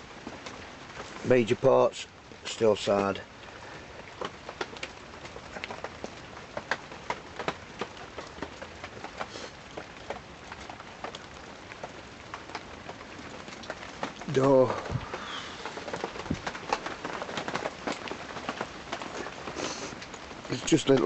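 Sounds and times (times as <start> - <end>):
heavy rain on canvas: 0.0 - 21.0.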